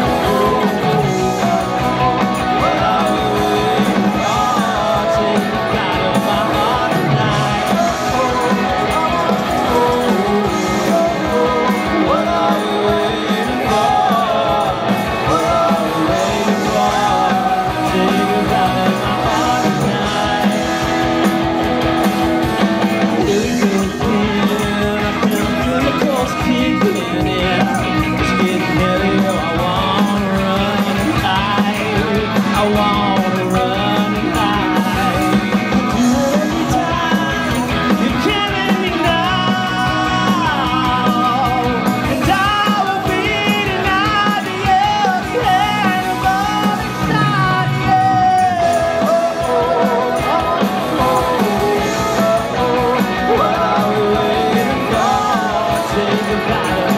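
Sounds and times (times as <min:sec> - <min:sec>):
bass guitar: 0:00.0 - 0:56.9
drum kit: 0:00.0 - 0:56.9
electric guitars: 0:00.0 - 0:56.9
lead vocal singing: 0:00.0 - 0:56.9.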